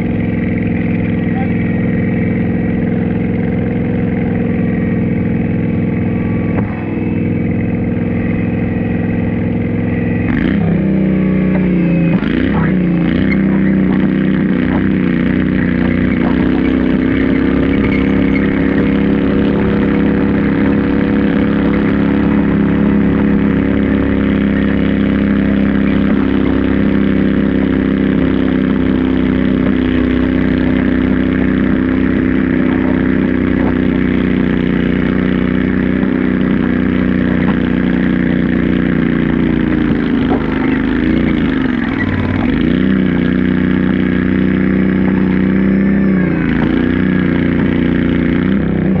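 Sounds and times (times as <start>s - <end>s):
garden tractor engine running hard: 0.0s - 49.0s.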